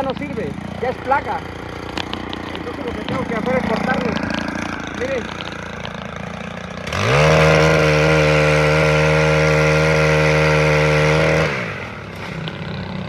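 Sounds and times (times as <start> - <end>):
powered pole saw motor: 0.0 - 13.0.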